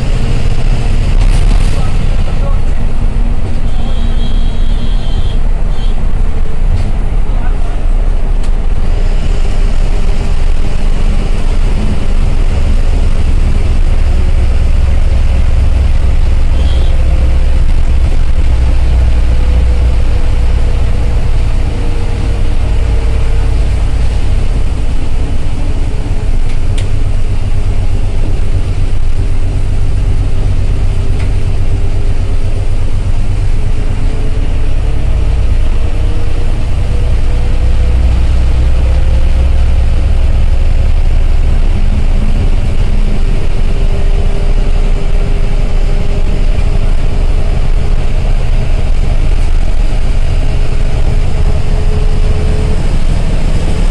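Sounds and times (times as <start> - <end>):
bus diesel engine droning: 0.0 - 53.9
engine whine: 0.0 - 53.9.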